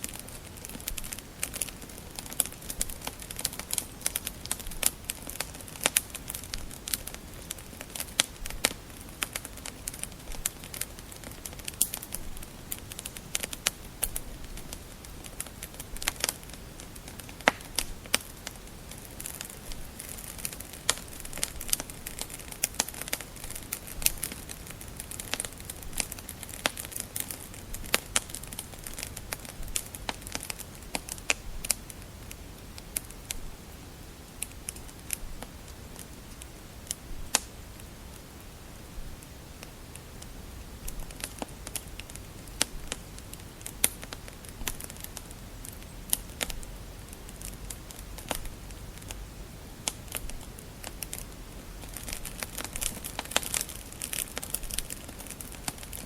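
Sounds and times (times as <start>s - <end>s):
low hiss: 0.0s - 56.0s
wood fire crackling: 0.0s - 56.0s.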